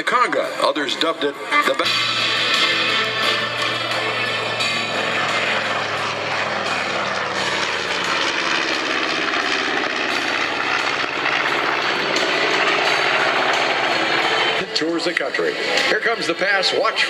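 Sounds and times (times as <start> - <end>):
piston aircraft engines and propellers: 0.0 - 17.0.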